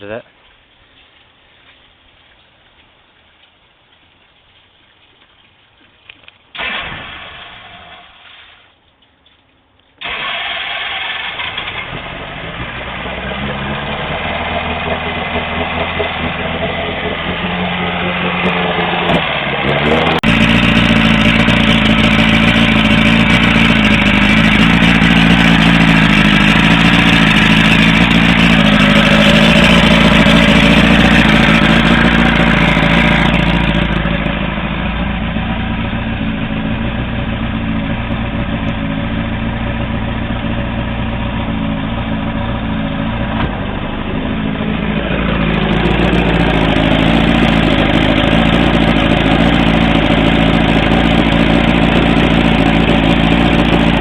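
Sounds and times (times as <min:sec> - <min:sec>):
outboard motor idling: 0:10.0 - 0:54.0.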